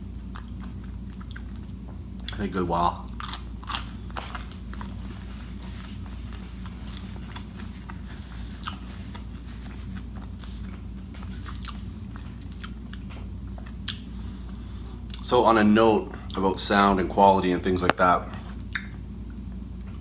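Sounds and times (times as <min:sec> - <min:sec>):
close-miked chewing: 0:00.0 - 0:15.3, 0:16.1 - 0:16.5, 0:17.9 - 0:20.0.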